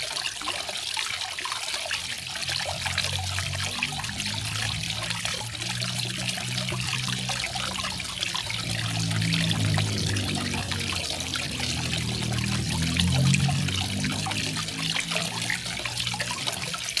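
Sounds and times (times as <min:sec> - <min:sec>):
low rumble of falling water: 0:00.0 - 0:17.0
water trickling and splashing: 0:00.0 - 0:17.0.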